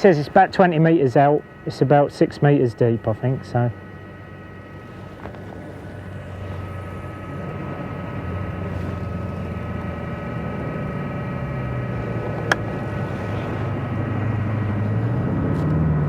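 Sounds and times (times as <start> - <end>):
motor engine droning: 0.0 - 16.0.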